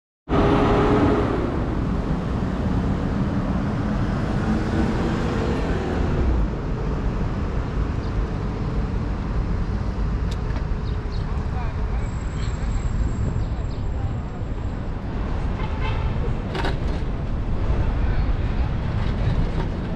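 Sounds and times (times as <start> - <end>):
cars passing: 0.3 - 19.9
low traffic rumble: 0.3 - 19.9.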